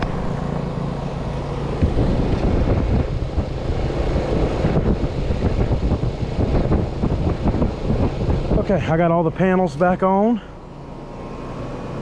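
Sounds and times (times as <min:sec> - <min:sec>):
air buffeting microphone: 0:00.0 - 0:12.0
compressor and fan hum: 0:00.0 - 0:12.0.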